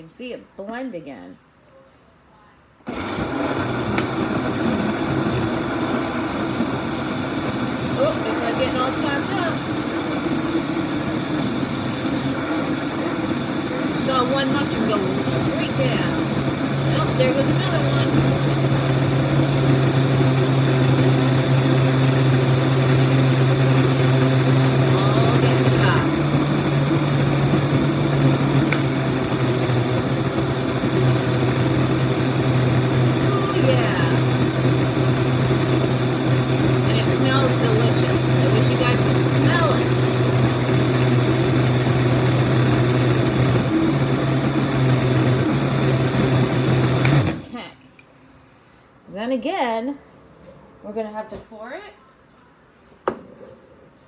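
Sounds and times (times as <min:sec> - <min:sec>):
blender motor running: 0:02.9 - 0:47.5.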